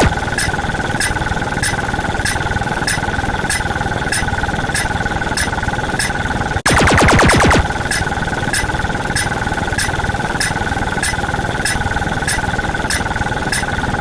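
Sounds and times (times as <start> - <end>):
machine-like hum with held tones: 0.0 - 14.0
sharp mechanical tick: 0.0 - 14.0.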